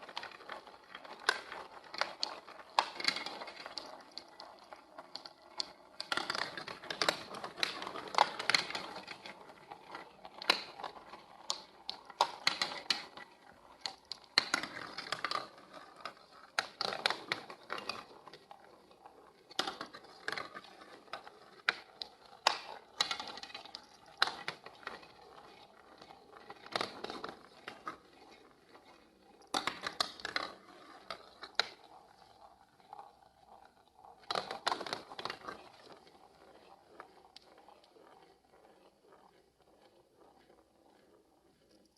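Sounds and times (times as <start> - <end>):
marbles rolling and clacking: 0.0 - 41.9.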